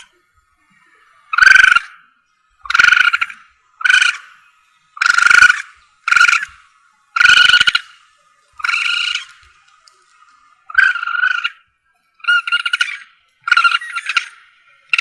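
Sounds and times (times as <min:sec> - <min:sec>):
civet calls: 0:01.2 - 0:02.0, 0:02.6 - 0:10.0, 0:10.6 - 0:15.0.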